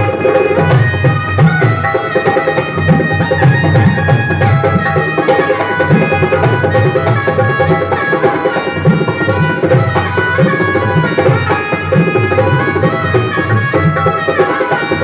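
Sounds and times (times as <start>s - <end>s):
dholak drumming: 0.0s - 15.0s.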